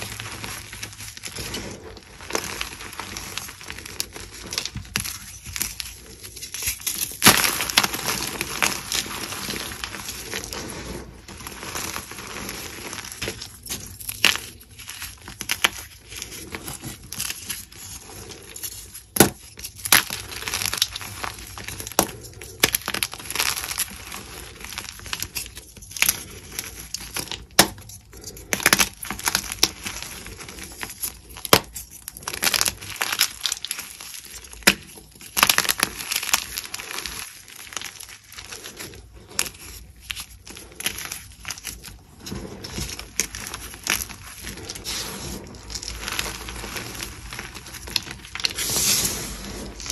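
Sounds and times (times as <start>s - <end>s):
chalk crunching and crumbling: 0.0s - 49.9s
chalk pieces snapping: 0.0s - 49.9s.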